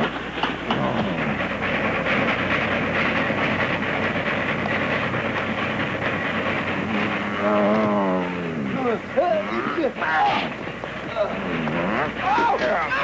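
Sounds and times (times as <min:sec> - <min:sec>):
train clattering and hissing: 0:00.0 - 0:13.0.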